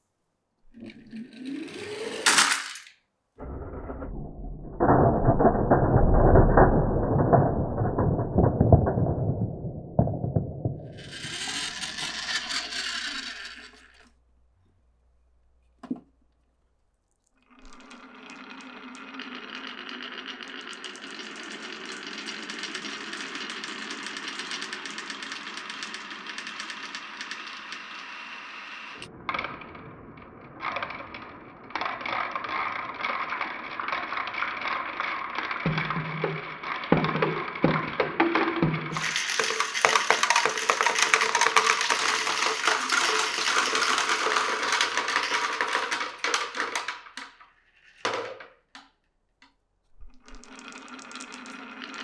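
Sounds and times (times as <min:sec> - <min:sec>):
glass marbles rolling on wood: 0:00.8 - 0:02.9, 0:04.2 - 0:14.1, 0:17.5 - 0:48.5, 0:50.1 - 0:52.0.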